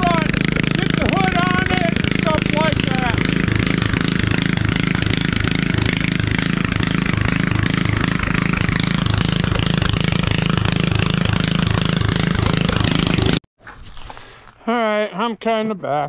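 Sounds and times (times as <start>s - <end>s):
small engine running loud: 0.0s - 13.5s.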